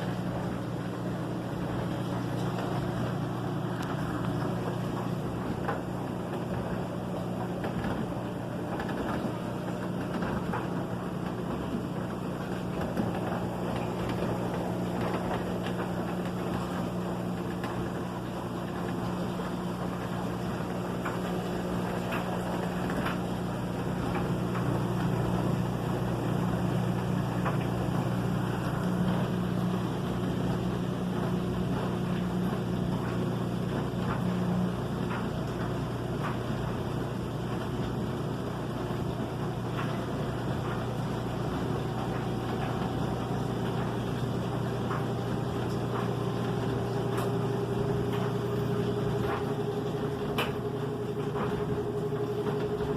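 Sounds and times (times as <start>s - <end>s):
rushing water noise: 0.0s - 52.9s
washing machine humming: 0.0s - 52.9s.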